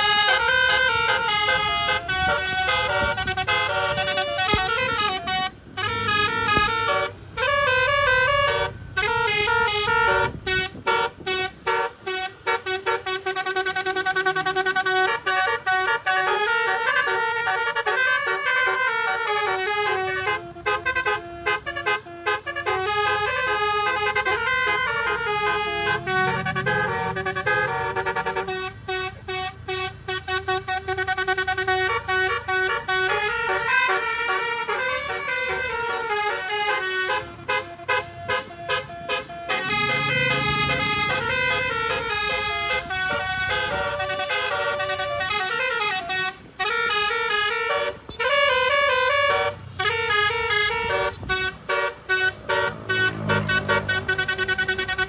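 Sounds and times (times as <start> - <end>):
bus air horns playing melody: 0.0 - 55.0.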